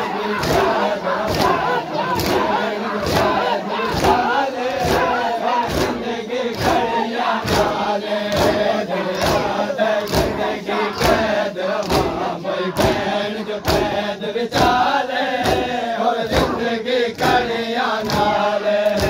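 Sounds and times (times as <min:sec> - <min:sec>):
crowd chanting in unison: 0:00.0 - 0:19.0
rhythmic chest slaps: 0:00.0 - 0:19.0.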